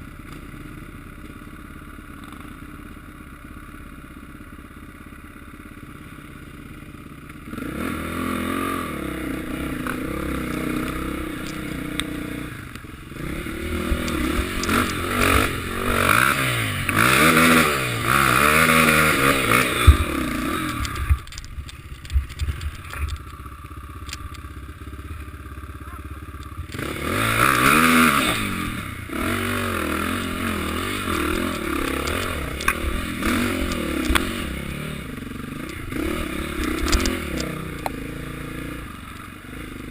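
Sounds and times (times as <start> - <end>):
motocross bike engines revving: 7.4 - 39.9.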